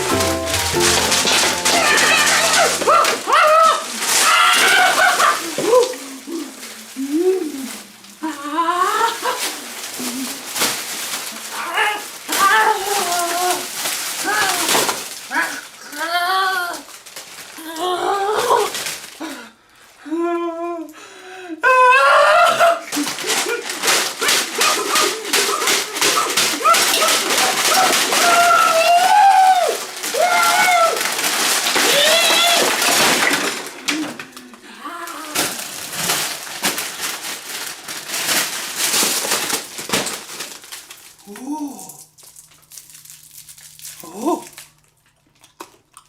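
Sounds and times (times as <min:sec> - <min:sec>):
plastic candy wrappers crackling: 0:00.0 - 0:19.4, 0:22.8 - 0:46.0.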